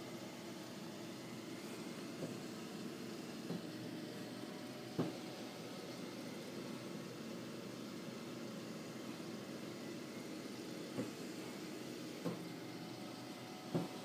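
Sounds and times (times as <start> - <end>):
air pump humming: 0.0 - 14.0.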